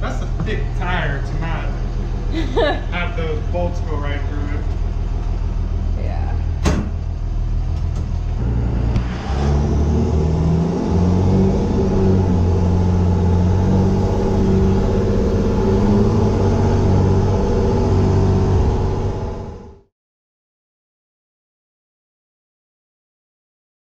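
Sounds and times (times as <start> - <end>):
bus diesel engine running: 0.0 - 19.9.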